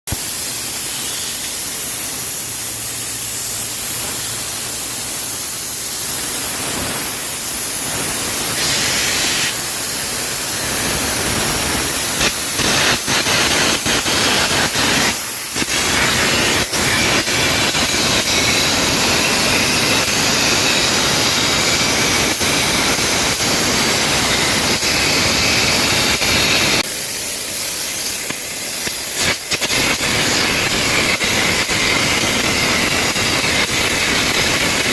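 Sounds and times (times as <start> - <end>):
compressed air jet hissing: 0.1 - 34.9
electric arc crackling and popping: 0.1 - 34.9.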